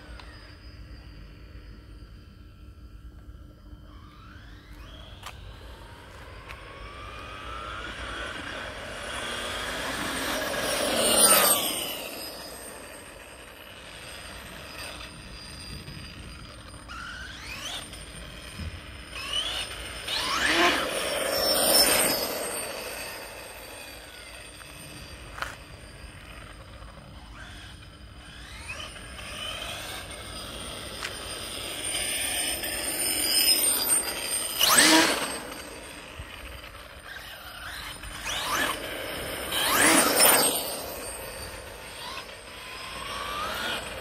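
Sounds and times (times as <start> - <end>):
rc car electric motor whining: 0.0 - 44.0.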